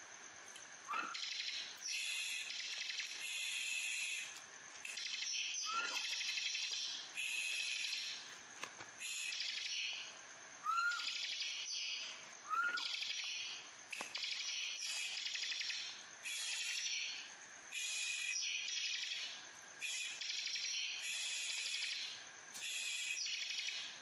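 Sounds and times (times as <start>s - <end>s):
bird singing rapid high trills: 0.9s - 8.2s, 9.0s - 24.0s.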